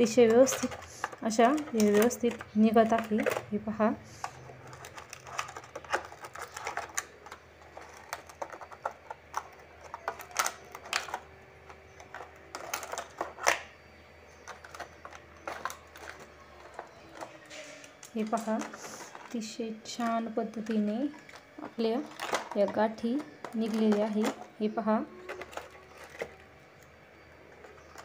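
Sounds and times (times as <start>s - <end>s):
plastic mold crackling and clicking: 0.0s - 3.5s, 4.2s - 13.7s, 14.3s - 24.6s, 25.2s - 28.0s.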